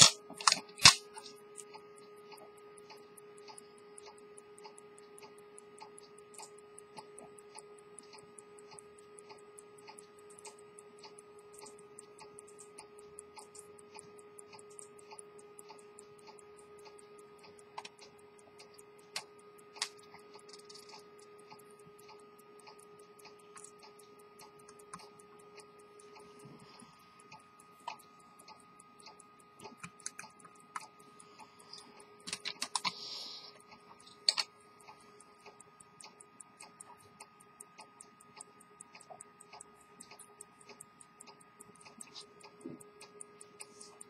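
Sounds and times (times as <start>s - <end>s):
sharp metallic clicks: 0.0s - 44.0s
watch ticking: 0.0s - 44.0s.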